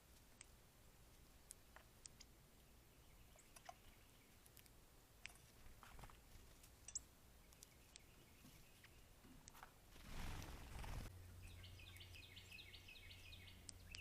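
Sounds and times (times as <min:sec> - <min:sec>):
birds pecking seed: 0:00.0 - 0:14.0.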